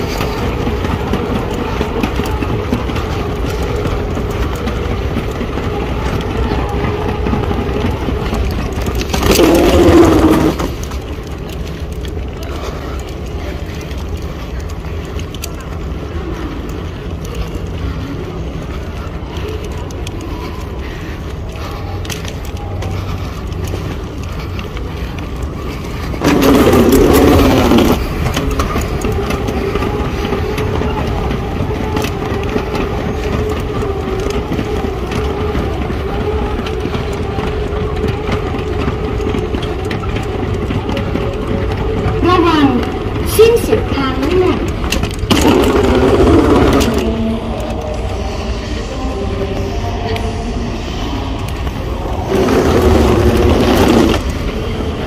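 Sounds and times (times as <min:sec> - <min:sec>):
loud burst boarding walkway: 0:00.0 - 0:55.0
moving walkway humming: 0:00.0 - 0:55.0
moving walkway rumble: 0:00.0 - 0:55.0.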